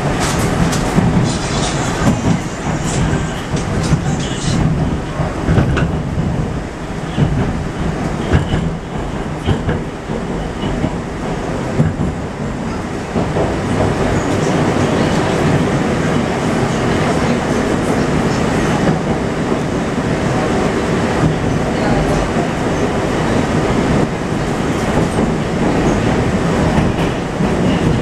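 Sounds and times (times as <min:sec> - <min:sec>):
train running: 0:00.0 - 0:28.0.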